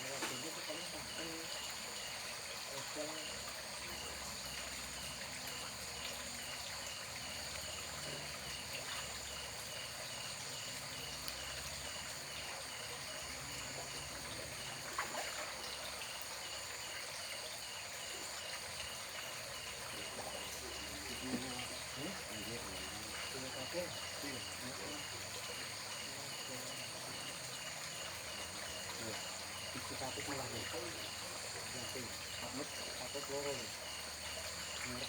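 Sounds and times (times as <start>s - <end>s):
insects trilling: 0.0s - 35.0s
running water trickling: 0.0s - 35.0s.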